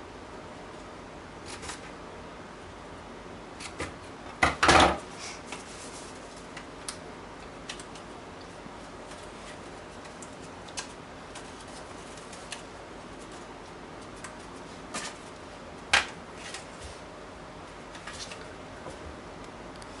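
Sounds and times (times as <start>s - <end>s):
room tone hiss: 0.0s - 20.0s.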